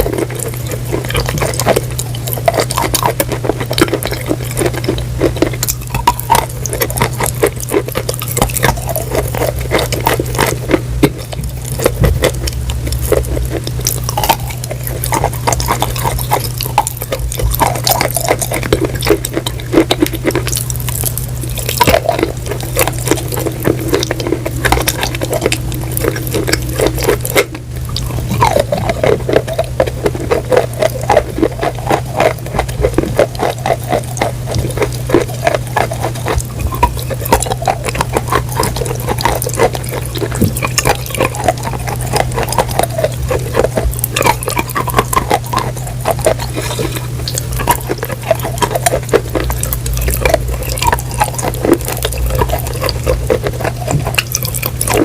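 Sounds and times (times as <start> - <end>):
chewing and crunching: 0.0 - 55.0
steady low hum: 0.0 - 55.0
wet mouth sounds: 0.0 - 55.0.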